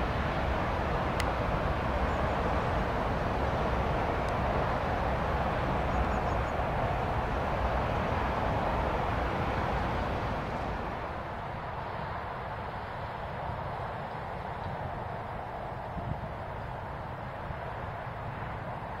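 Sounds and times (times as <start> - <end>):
distant train passing: 0.0 - 19.0.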